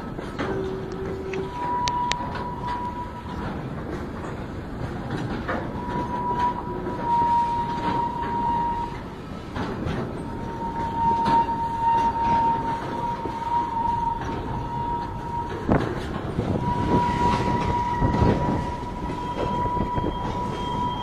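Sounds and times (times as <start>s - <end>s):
train wheels clacking over rail joints: 0.0s - 21.0s.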